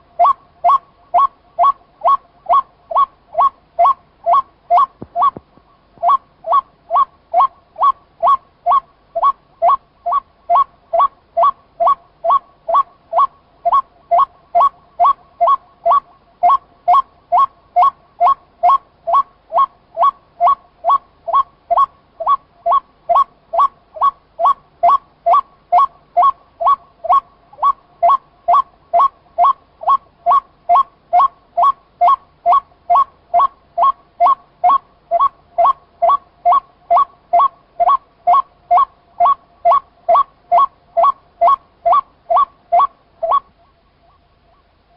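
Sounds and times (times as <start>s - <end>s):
waterhen repeated call: 0.0s - 44.8s.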